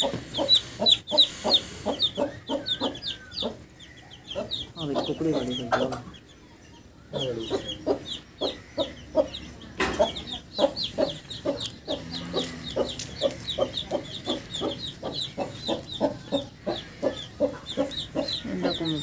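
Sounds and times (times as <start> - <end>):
chicks peeping: 0.0 - 19.0
hen clucking: 0.0 - 19.0.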